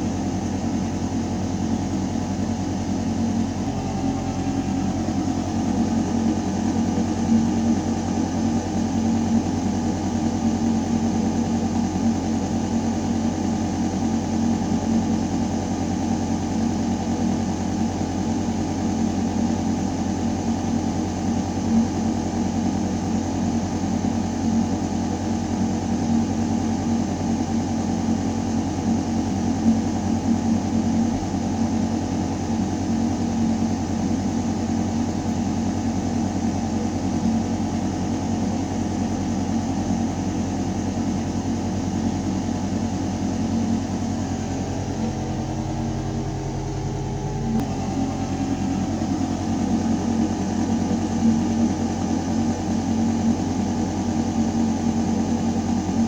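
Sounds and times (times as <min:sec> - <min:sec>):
ventilation system hum: 0:00.0 - 0:56.0.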